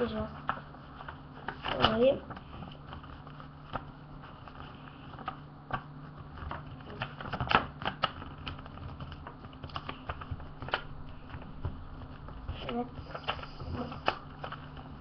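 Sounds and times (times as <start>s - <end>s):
low steady hum: 0.0s - 15.0s
paper rustling and tapping: 0.0s - 15.0s.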